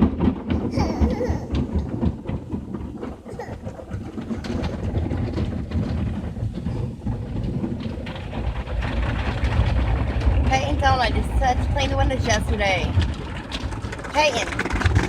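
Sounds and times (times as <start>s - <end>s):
car wash machinery rumble: 0.0s - 15.0s
rapid knocks and slaps on car: 0.0s - 15.0s.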